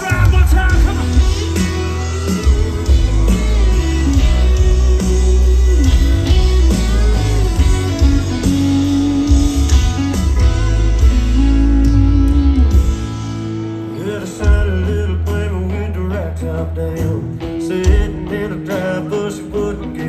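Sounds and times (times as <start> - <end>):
guitar: 0.0 - 20.0
heavy bass: 0.0 - 20.0
live country band instrumental: 0.0 - 20.0.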